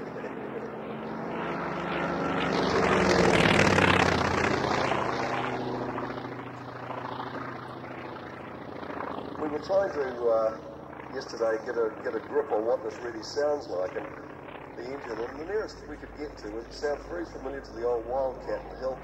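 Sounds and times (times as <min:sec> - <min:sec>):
propeller plane fly-past: 0:00.0 - 0:19.0.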